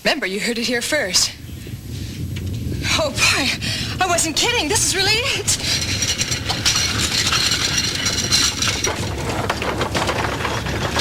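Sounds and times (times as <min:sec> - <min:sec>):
low rumble: 0:01.0 - 0:10.7
objects rattling and clattering: 0:02.2 - 0:11.0.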